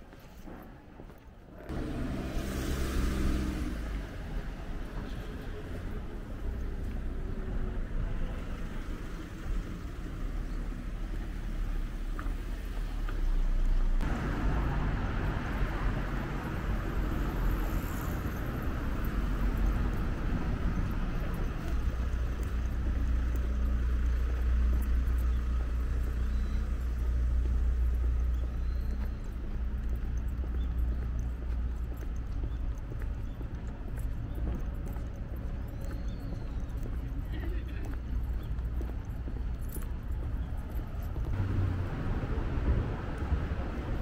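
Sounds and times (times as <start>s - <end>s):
rumble of cars on road: 0.0s - 44.0s.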